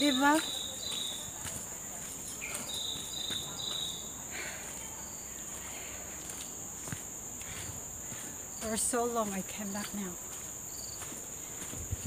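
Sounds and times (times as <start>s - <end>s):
footsteps crunching on dirt: 0.0s - 12.0s
insects droning: 0.0s - 12.0s.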